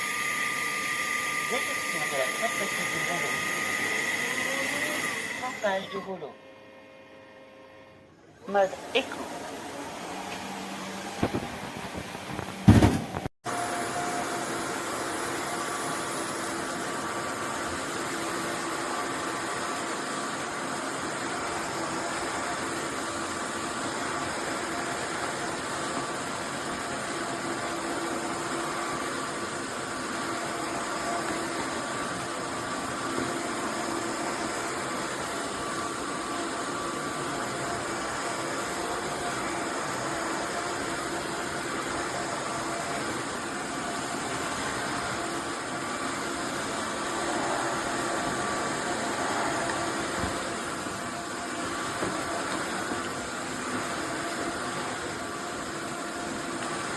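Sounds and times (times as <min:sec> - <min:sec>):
vacuum roller whirring: 0:00.0 - 0:06.0, 0:08.5 - 0:56.9.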